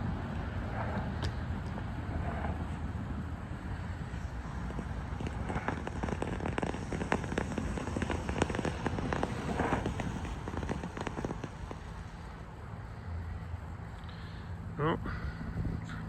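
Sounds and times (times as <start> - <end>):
firework fountain crackling: 0.0 - 13.0.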